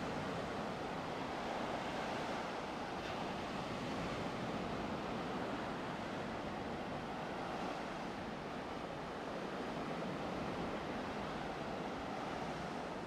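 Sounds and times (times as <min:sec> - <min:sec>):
ocean surf on a beach: 0:00.0 - 0:13.0.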